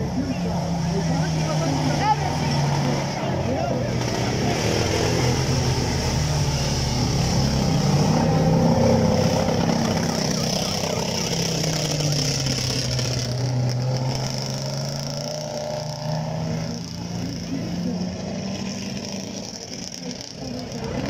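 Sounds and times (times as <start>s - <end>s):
buggy engines revving in mud: 0.0s - 21.0s.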